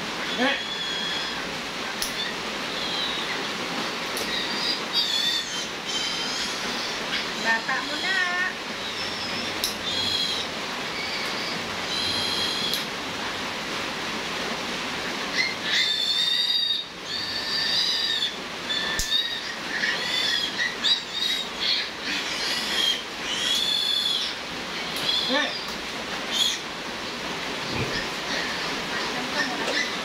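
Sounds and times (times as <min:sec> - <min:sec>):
piglet squealing: 0:00.2 - 0:12.9, 0:15.3 - 0:25.7, 0:26.3 - 0:26.7, 0:27.6 - 0:30.0.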